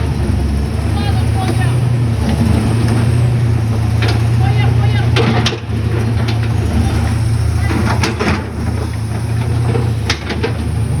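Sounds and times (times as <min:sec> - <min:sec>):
diesel construction machinery drone: 0:00.0 - 0:11.0.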